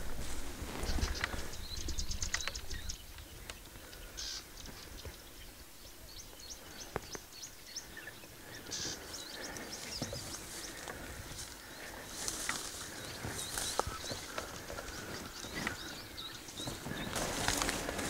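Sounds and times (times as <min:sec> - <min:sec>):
tall grass rustling: 0:00.0 - 0:05.7, 0:08.4 - 0:18.0
small birds chirping: 0:00.0 - 0:18.0.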